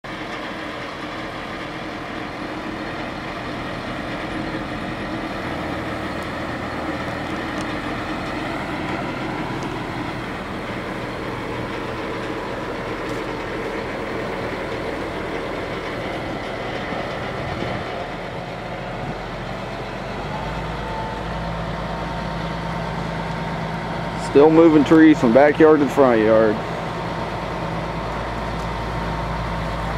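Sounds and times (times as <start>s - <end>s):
crane engine droning: 0.0s - 29.9s.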